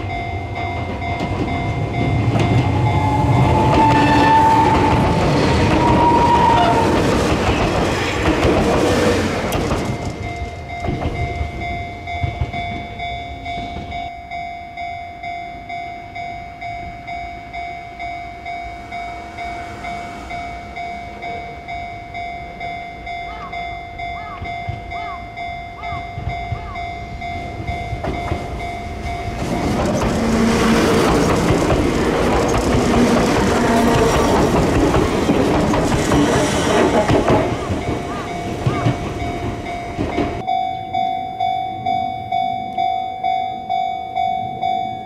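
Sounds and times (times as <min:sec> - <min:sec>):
level-crossing alarm dinging: 0:00.0 - 0:45.0
train rumbling: 0:00.0 - 0:45.0.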